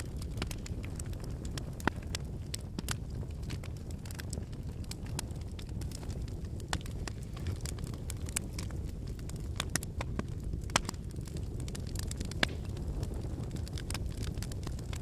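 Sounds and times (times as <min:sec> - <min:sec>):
firewood crackling: 0:00.0 - 0:15.0
flames rumbling: 0:00.0 - 0:15.0.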